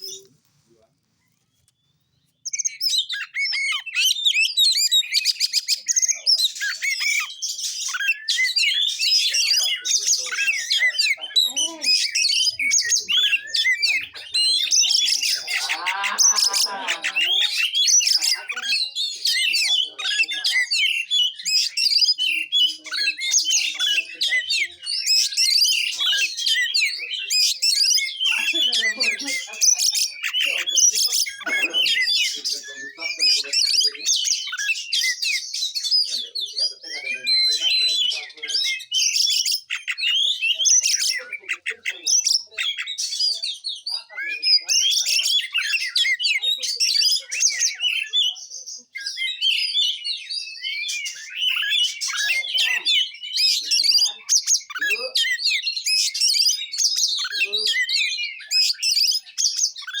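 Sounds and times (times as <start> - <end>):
songbird singing whistles and chatter: 0.0 - 60.0.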